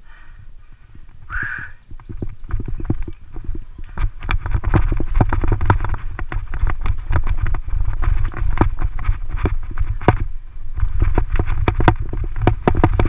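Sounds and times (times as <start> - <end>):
tyres rumbling: 0.0 - 13.0
wind on microphone: 0.0 - 13.0
bicycle rattling over gravel: 1.9 - 13.0.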